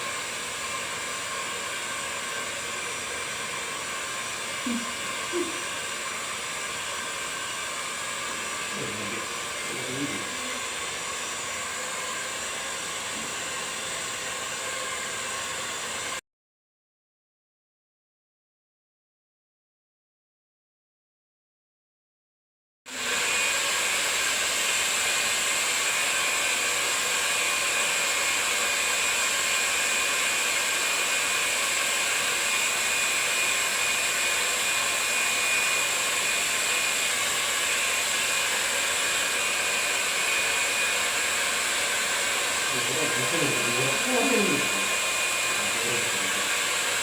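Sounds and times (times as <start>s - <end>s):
electric fan motor whirring: 0.0s - 16.2s, 22.9s - 47.0s.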